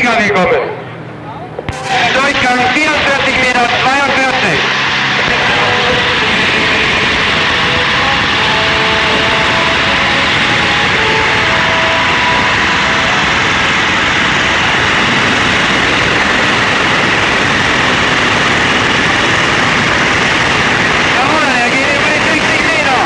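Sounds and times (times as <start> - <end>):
tractor engine running loudly: 0.0 - 23.0.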